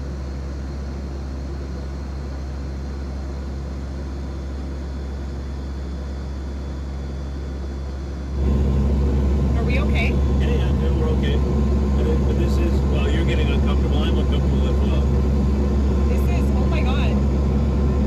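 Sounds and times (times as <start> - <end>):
turboprop engines droning: 0.0 - 18.0.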